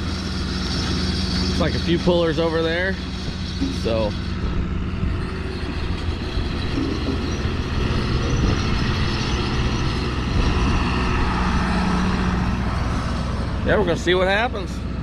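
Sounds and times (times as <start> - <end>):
engines rumbling: 0.0 - 15.0.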